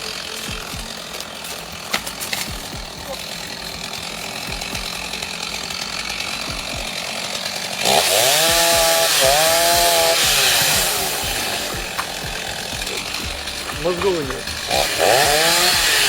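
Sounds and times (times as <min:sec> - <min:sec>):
chainsaw engine revving: 0:00.0 - 0:16.0
steady machine noise: 0:00.0 - 0:16.0.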